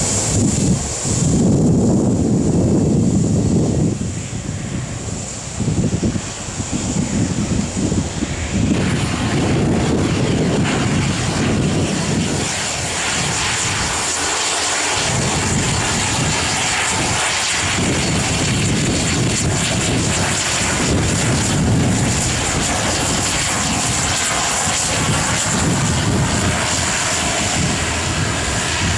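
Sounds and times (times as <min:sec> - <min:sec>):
jet engines rumbling: 0:00.0 - 0:28.9
turboprop taxiing: 0:00.0 - 0:28.9.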